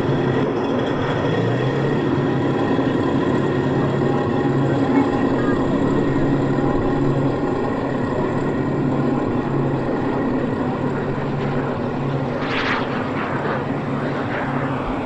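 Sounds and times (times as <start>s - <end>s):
engine drone: 0.0s - 15.0s
pulsing low hum: 0.0s - 15.0s
rush of high noise: 0.0s - 15.0s.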